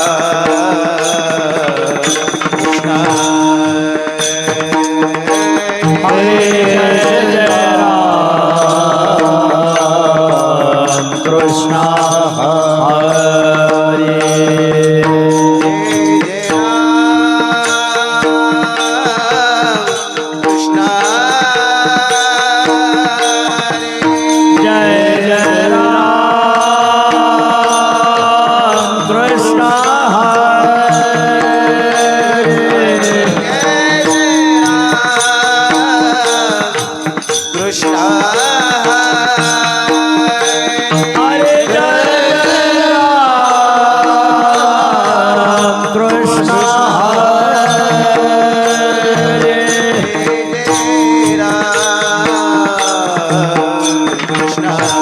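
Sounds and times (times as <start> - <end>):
light percussion: 0.0 - 55.0
person singing devotional song: 0.0 - 55.0.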